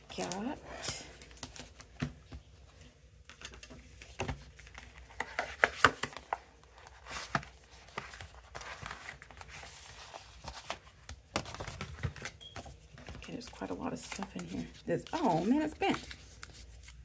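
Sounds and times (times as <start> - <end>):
cardstock and paper rustling: 0.0 - 17.0.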